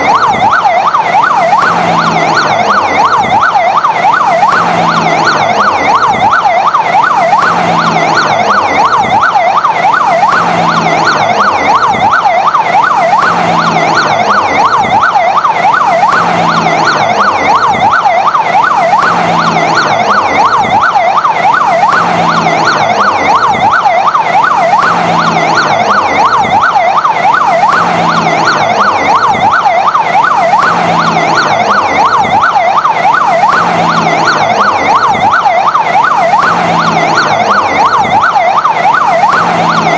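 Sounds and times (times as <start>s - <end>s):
fire engine siren yelping: 0.0s - 39.9s.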